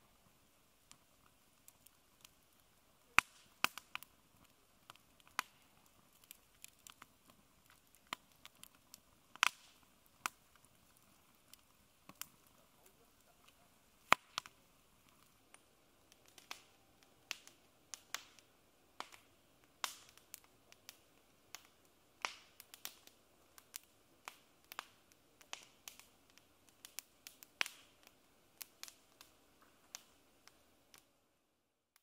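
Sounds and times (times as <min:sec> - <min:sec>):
faint hiss: 0:00.0 - 0:31.9
campfire crackling and popping: 0:00.0 - 0:32.0.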